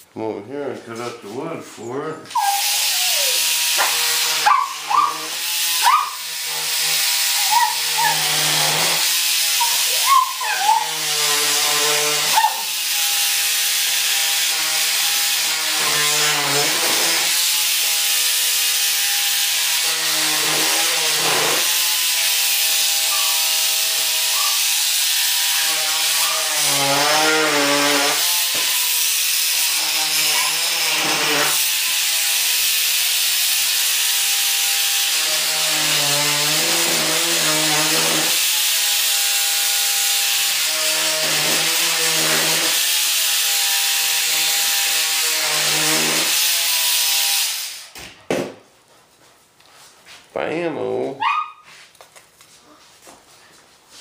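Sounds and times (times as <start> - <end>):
rotary tool grinding wood: 2.3 - 47.9.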